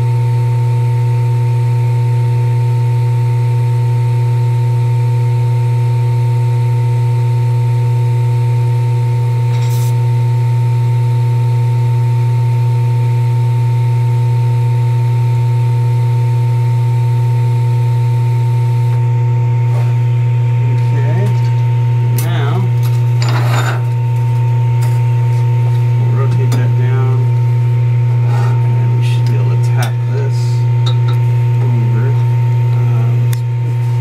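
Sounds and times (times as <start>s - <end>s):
loud steady low hum: 0.0s - 34.0s.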